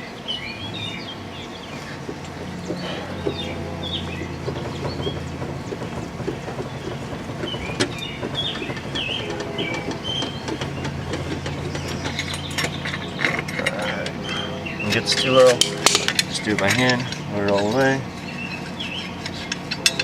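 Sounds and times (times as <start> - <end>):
birds chirping: 0.0 - 20.0
steady low hum: 0.0 - 20.0
car jack clicking and rattling: 1.8 - 20.0.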